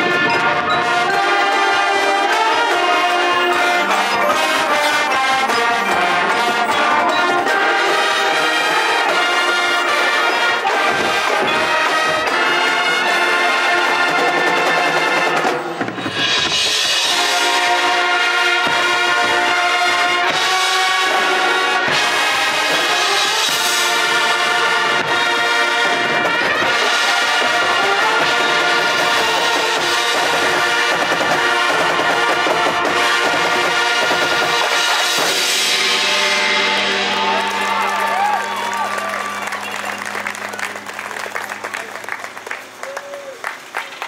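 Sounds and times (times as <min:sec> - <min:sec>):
crowd cheering: 0:00.0 - 0:15.9, 0:17.0 - 0:44.0
marching band playing brass piece: 0:00.0 - 0:44.0.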